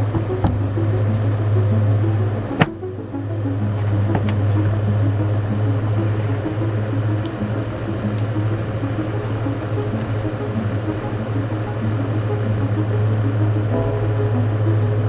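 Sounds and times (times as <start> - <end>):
low drone: 0.0 - 15.0
soft melodic notes: 0.0 - 15.0.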